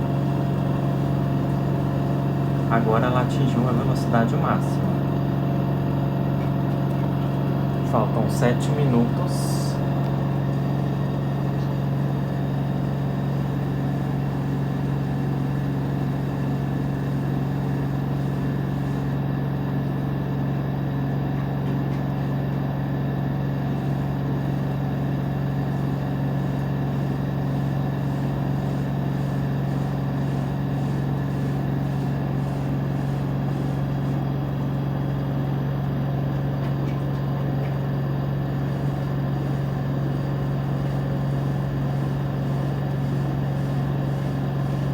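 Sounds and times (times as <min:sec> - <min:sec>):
washing machine drum spinning: 0:00.0 - 0:44.9.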